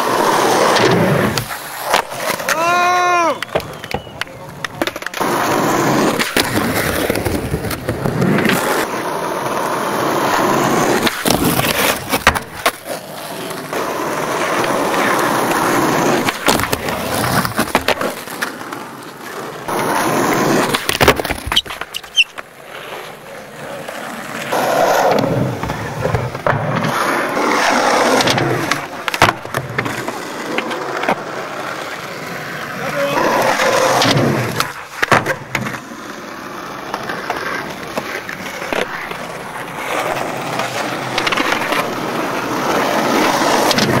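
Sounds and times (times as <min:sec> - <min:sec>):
skateboard clacks on concrete: 0:00.0 - 0:44.0
skateboard wheels rolling on asphalt: 0:00.0 - 0:44.0.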